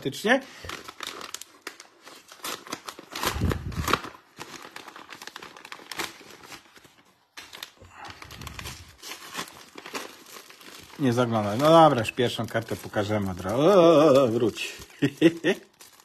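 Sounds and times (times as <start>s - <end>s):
plastic wrapper crinkling: 0.0s - 16.0s.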